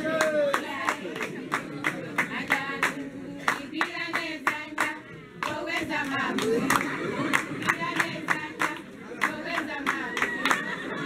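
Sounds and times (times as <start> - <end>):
people singing: 0.0 - 11.0
rhythmic hand clapping: 0.0 - 11.0.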